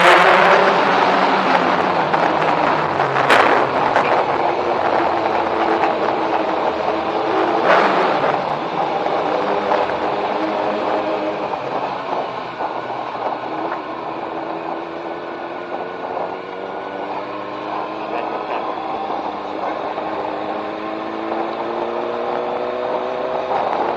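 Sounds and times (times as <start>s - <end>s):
motorcycle engine running: 0.0s - 23.9s
steady rush of noise: 0.0s - 23.9s.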